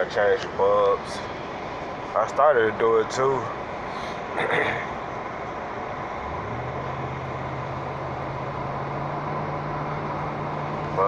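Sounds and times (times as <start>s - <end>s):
low engine drone: 0.0s - 11.0s
road noise inside car: 0.0s - 11.0s.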